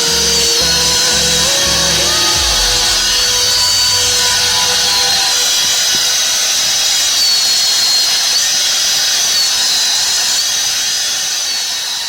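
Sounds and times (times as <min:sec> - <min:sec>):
high-pitched power tool whine: 0:00.0 - 0:12.0.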